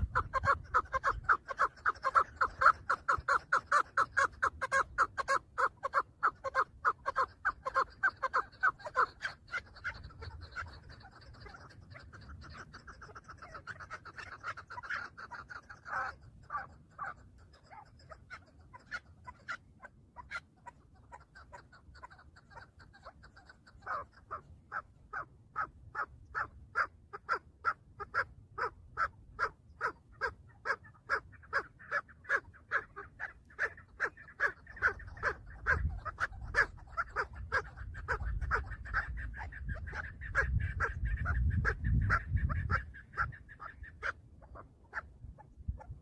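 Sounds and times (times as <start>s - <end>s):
partridge calling chuk notes: 0.0s - 46.0s.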